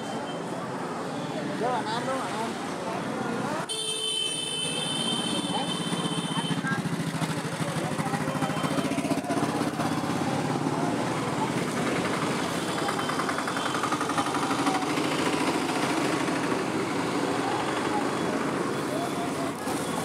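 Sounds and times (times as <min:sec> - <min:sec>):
busy market noise: 0:00.0 - 0:20.0.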